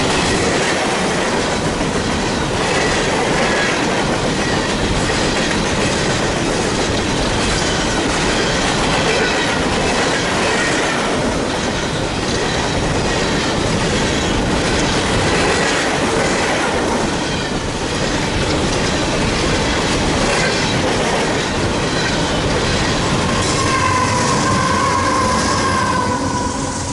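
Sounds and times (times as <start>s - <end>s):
wheels clacking over rail joints: 0.0s - 26.4s
wheel-on-rail noise: 0.0s - 26.9s.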